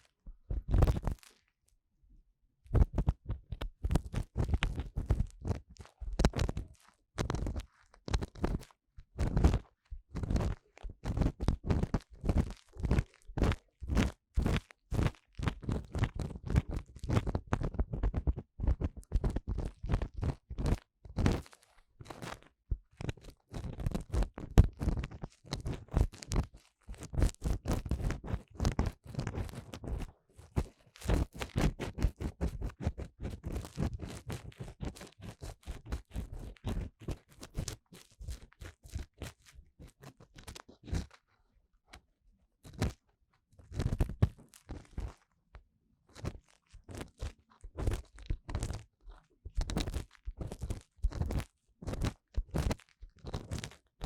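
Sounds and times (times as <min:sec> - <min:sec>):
crackly scratching on microphone: 0:00.4 - 0:01.4, 0:02.7 - 0:42.0, 0:42.6 - 0:45.4, 0:46.0 - 0:54.0.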